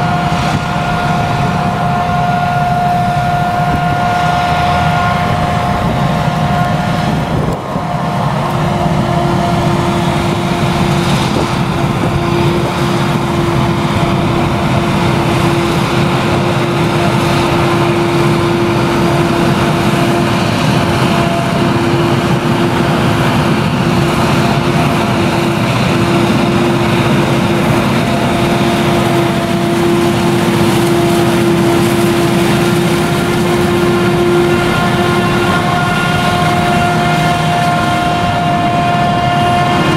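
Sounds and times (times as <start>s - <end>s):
forage harvester engine under load: 0.0s - 39.9s
steady machine whine: 0.0s - 39.9s.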